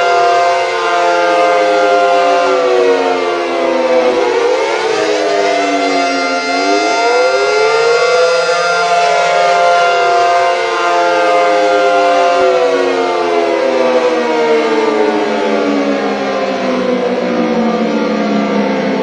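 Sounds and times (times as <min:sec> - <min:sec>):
civil defense siren wail: 0:00.0 - 0:19.0.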